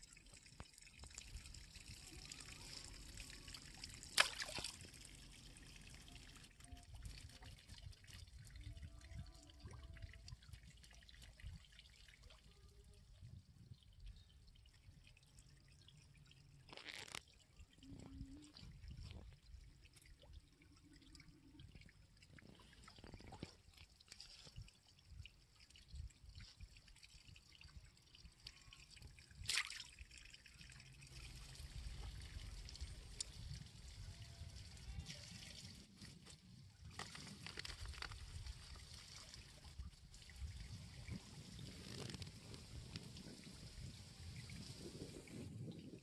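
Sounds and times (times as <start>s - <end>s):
water splashes: 0.0s - 12.6s, 14.6s - 46.0s
water drips and trickles: 0.0s - 46.0s.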